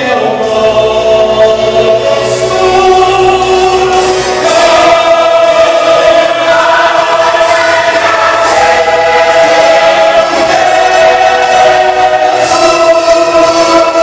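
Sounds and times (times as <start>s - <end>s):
choir accompaniment: 0.0s - 14.0s
church choir singing: 0.0s - 14.0s.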